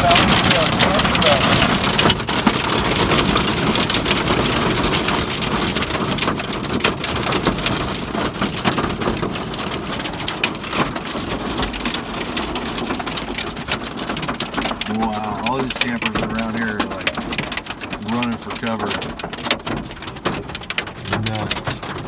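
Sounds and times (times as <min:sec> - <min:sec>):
hail and rain on car roof: 0:00.0 - 0:22.0.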